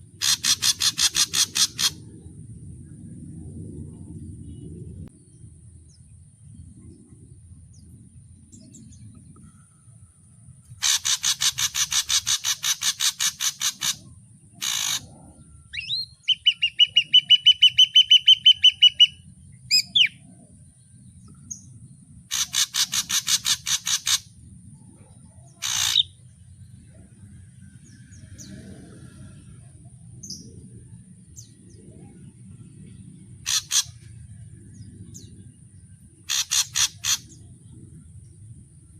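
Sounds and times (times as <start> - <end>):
bird singing varied song: 4.4 - 9.8, 10.7 - 29.0, 30.1 - 38.9.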